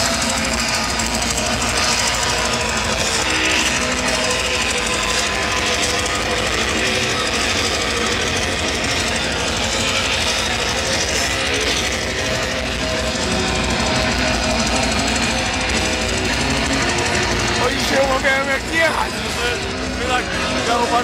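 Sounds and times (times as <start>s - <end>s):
heavy metal music: 0.0s - 21.0s.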